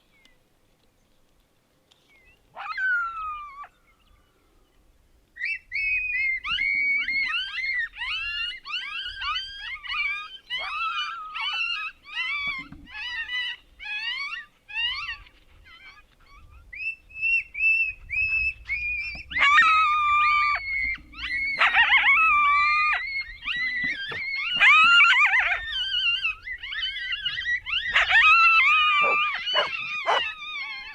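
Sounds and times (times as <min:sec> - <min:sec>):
coyote yips and whines: 0:02.2 - 0:04.2, 0:05.3 - 0:30.9
coyote howls: 0:02.6 - 0:03.9, 0:05.4 - 0:30.9.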